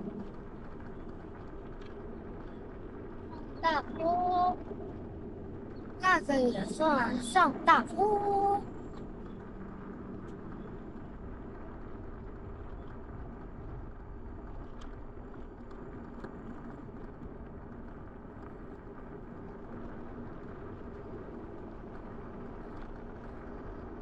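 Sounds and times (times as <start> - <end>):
faint steady hum: 0.0 - 24.0
wind rumble on microphone: 0.0 - 24.0.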